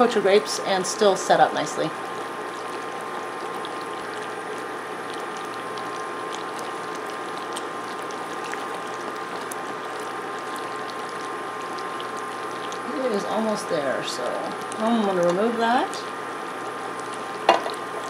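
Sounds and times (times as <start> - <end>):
high whine from burner: 0.0 - 18.0
syrup boiling with popping bubbles: 0.0 - 18.0.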